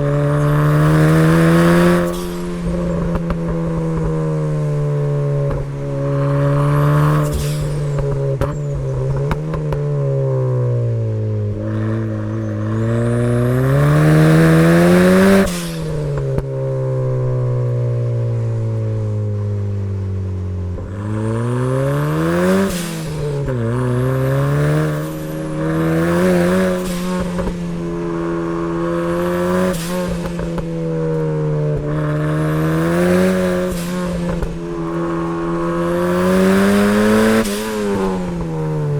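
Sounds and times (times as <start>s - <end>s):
turbocharged car engine revving: 0.0s - 38.9s.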